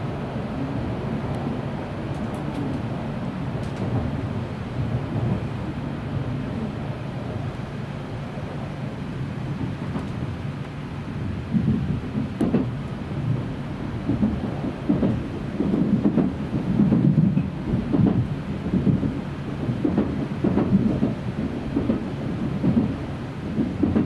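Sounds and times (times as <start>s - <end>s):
train running rumble: 0.0s - 24.0s.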